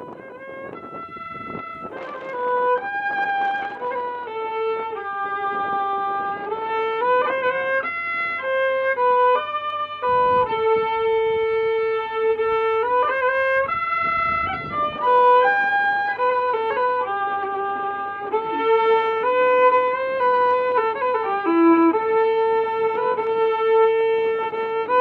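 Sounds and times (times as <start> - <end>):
fiddle melody: 0.0 - 25.0.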